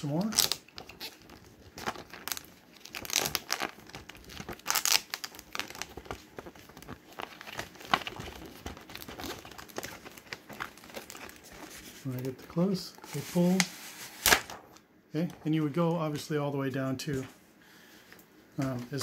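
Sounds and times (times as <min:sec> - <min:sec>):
film and paper crinkling: 0:00.0 - 0:17.4.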